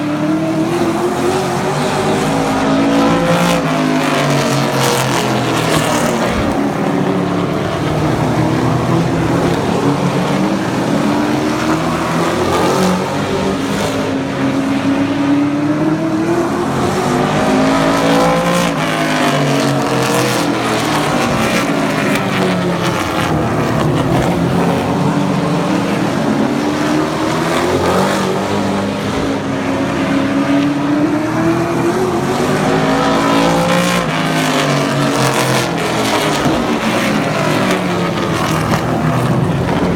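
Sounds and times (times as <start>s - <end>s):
race truck engines: 0.0s - 39.9s.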